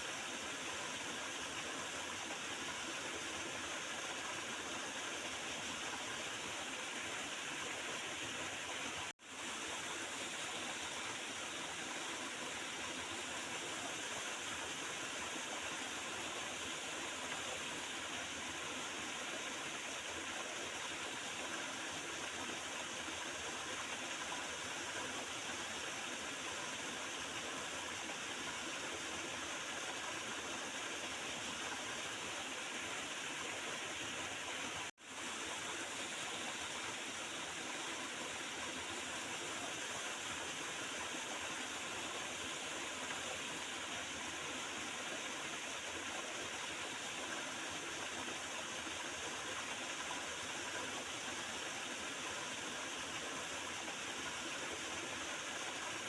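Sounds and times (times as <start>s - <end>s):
river water flowing and gurgling: 0.0s - 56.0s.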